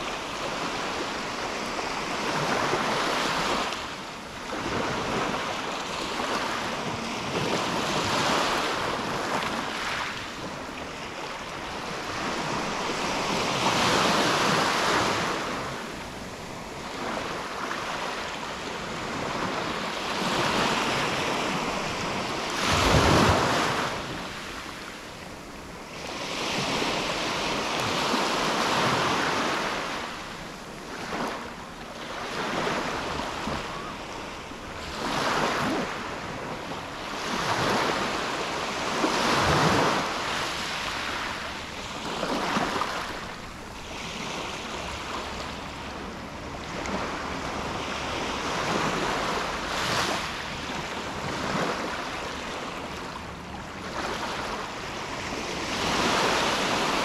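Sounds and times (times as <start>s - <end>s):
sea waves lapping on beach: 0.0s - 57.0s.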